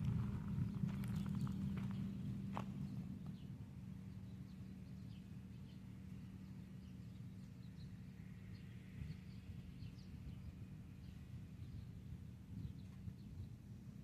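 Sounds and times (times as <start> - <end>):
distant engine hum: 0.0 - 14.0.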